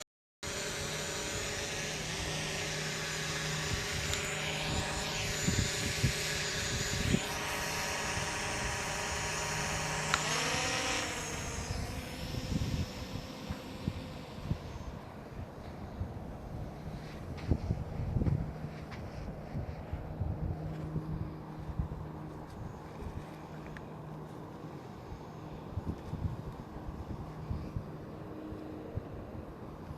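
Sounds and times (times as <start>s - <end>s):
drone propellers whining: 0.4s - 29.9s.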